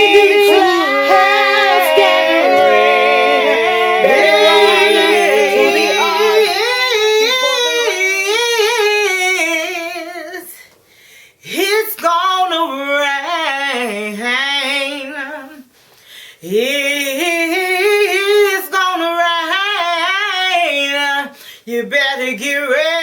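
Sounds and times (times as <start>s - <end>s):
woman singing gospel song: 0.0s - 10.6s, 11.4s - 15.6s, 16.4s - 23.0s.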